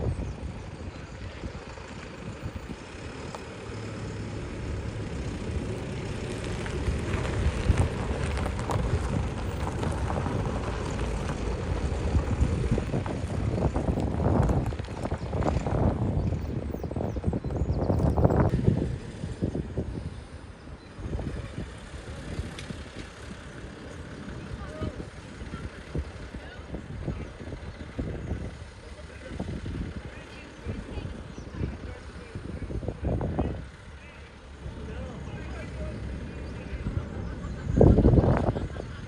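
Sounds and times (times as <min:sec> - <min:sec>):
tractor engines driving past: 0:00.0 - 0:39.0.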